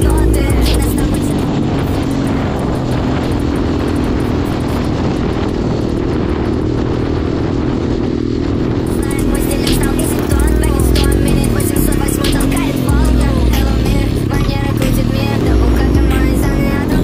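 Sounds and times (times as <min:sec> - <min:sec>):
pit bike engine running: 0:00.0 - 0:17.0.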